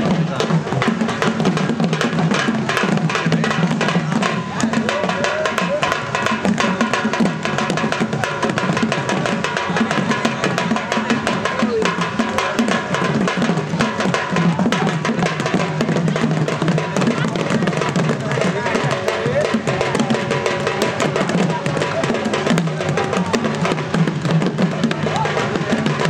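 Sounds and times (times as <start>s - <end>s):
fast folk drumming: 0.0s - 26.0s.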